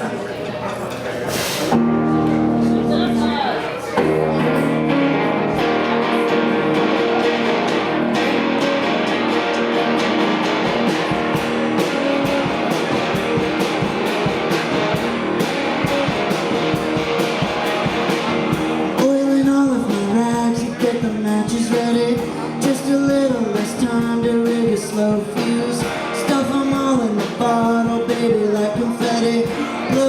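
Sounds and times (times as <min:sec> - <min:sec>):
strummed electric guitars: 0:01.3 - 0:30.0
bass guitar: 0:01.4 - 0:30.0
steady drum beat: 0:04.0 - 0:30.0.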